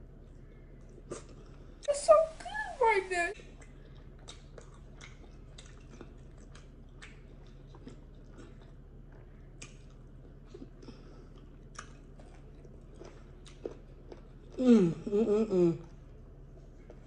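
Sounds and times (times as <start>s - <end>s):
faint low hum: 0.0s - 17.0s
chewing and lip smacking: 0.1s - 1.8s, 3.4s - 14.6s, 15.8s - 17.0s.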